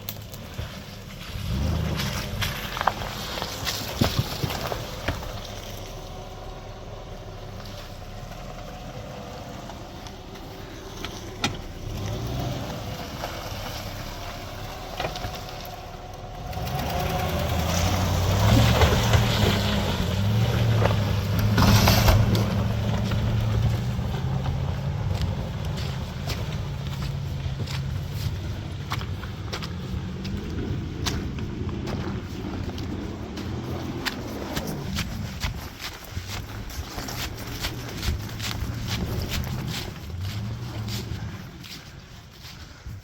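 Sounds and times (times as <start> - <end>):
pickup truck engine revving: 0.4 - 42.4.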